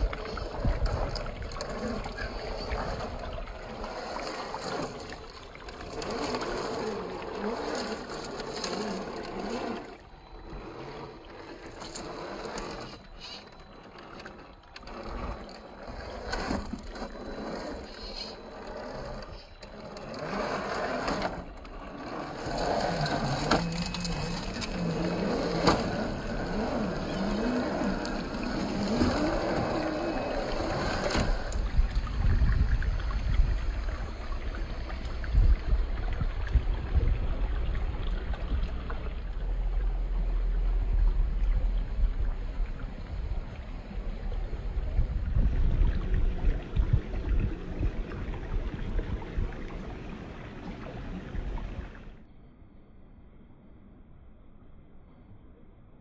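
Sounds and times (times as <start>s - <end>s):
electric motors whining: 0.0s - 45.0s.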